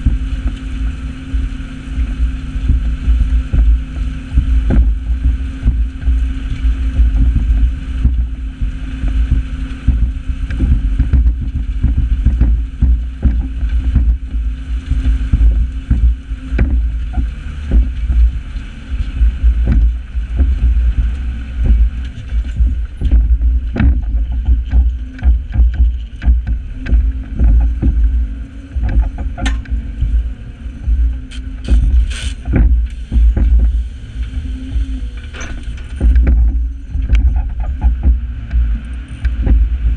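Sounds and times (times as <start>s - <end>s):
tractor engine under load: 0.0s - 39.9s
wind rumble on microphone: 0.0s - 39.9s.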